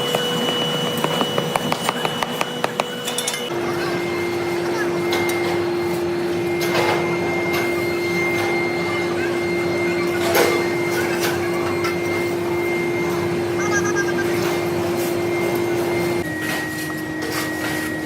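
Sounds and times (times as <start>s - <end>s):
machine tool humming: 0.0s - 16.2s.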